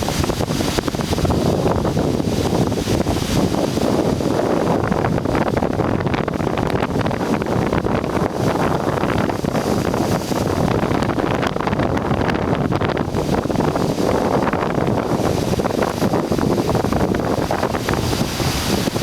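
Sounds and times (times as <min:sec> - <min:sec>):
waves breaking on rocky shore: 0:00.0 - 0:19.0
wind buffeting microphone: 0:00.0 - 0:19.0.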